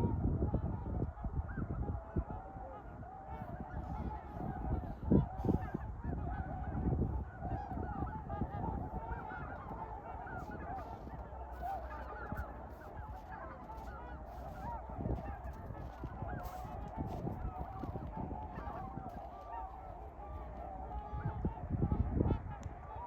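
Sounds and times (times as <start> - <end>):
swans honking: 0.0 - 23.0.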